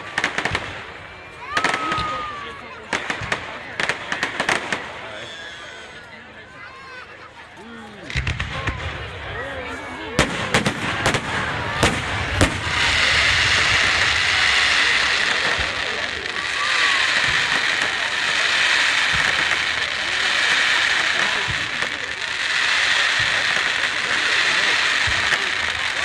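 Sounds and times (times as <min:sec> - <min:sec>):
firework bangs: 0:00.0 - 0:05.6, 0:08.0 - 0:26.0
firework crackling: 0:00.0 - 0:05.6, 0:08.1 - 0:26.0.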